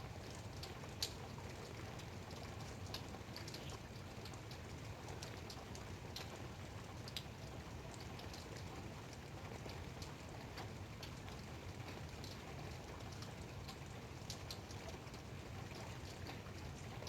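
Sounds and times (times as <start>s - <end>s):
light rain falling: 0.0s - 17.0s
raindrops ticking: 0.2s - 17.0s.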